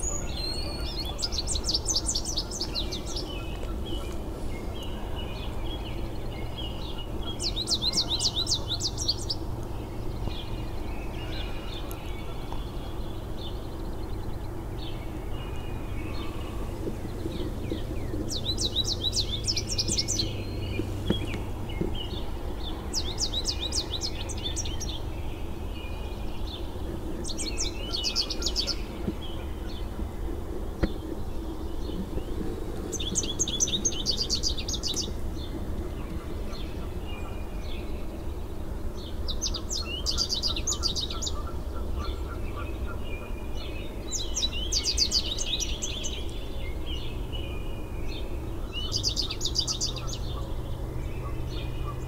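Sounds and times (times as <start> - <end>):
low background hum: 0.0 - 52.0
songbird singing: 0.0 - 52.0.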